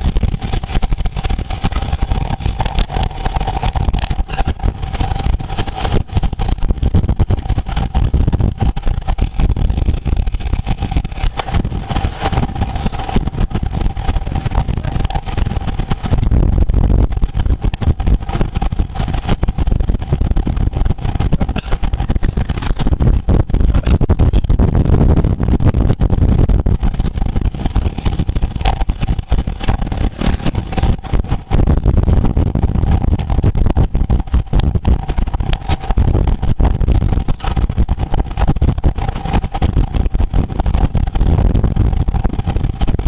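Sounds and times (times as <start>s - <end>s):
wind rumbling on microphone: 0.0s - 43.0s.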